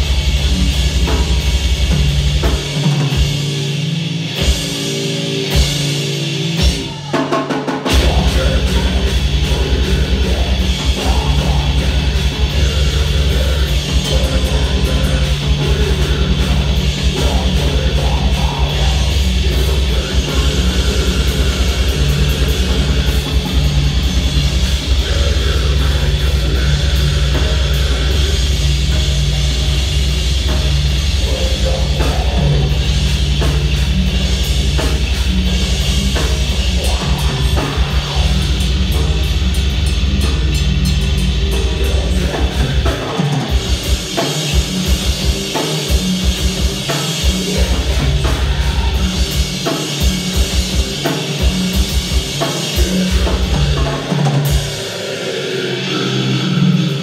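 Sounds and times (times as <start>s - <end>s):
drum kit: 0.0s - 57.0s
electric guitar: 0.0s - 57.0s
metal band playing live: 0.0s - 57.0s.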